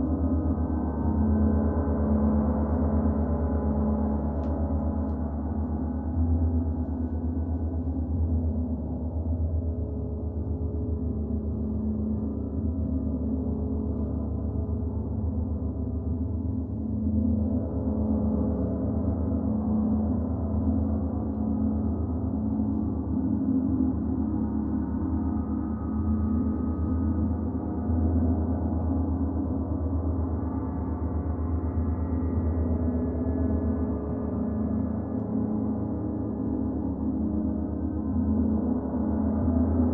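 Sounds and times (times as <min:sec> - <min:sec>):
low pulsing hum: 0:00.0 - 0:39.9.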